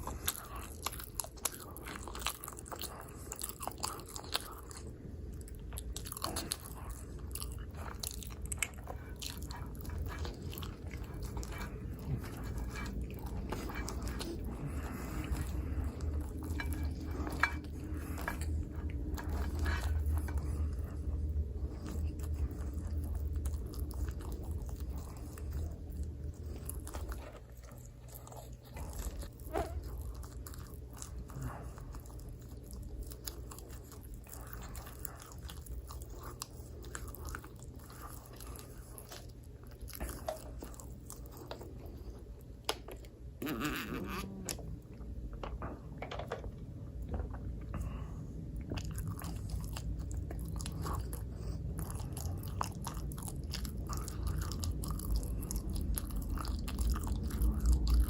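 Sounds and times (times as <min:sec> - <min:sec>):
low steady hum: 0:00.0 - 0:58.0
person chewing pizza: 0:00.0 - 0:58.0.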